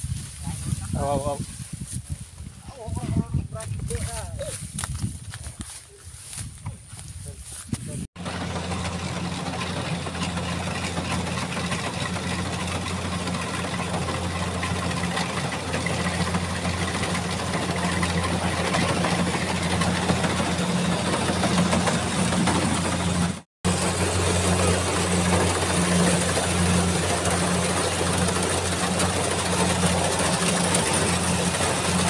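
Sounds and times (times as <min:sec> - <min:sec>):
engine running steadily: 0:05.7 - 0:32.0.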